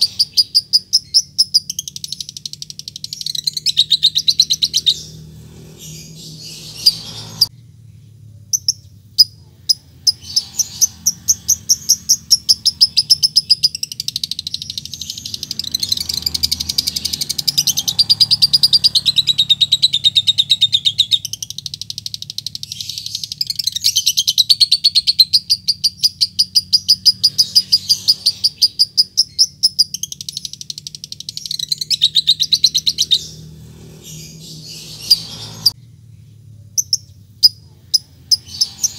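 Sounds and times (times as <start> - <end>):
lovebird chirping and trilling: 0.0 - 7.5, 8.5 - 35.8, 36.8 - 38.9.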